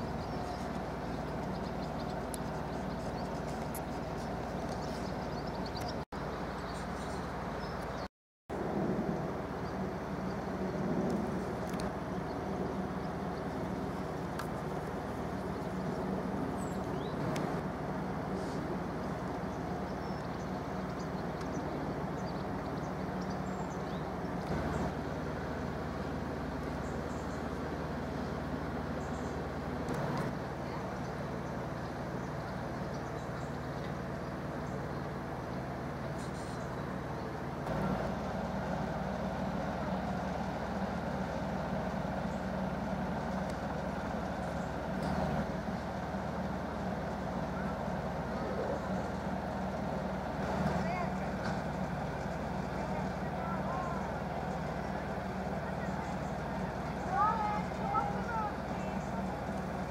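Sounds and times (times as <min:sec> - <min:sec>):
low mechanical rumble: 0:00.0 - 0:59.9.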